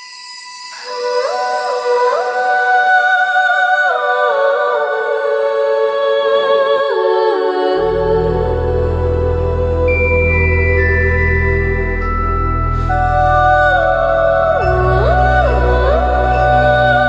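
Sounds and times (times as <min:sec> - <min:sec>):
ambient choir-like music: 0:00.0 - 0:17.0.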